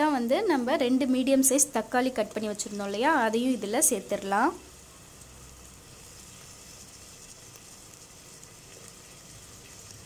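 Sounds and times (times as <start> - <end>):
onions and tomatoes sizzling in oil: 0.0 - 10.0.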